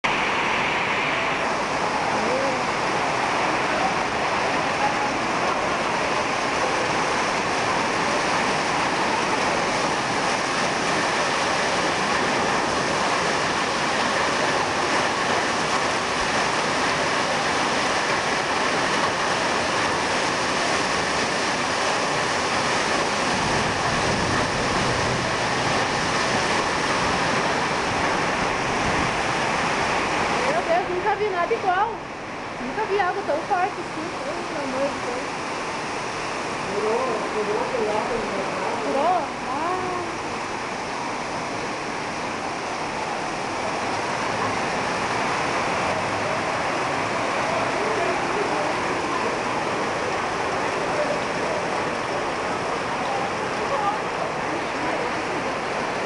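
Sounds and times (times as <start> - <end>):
hail and rain pouring down: 0.1 - 56.0.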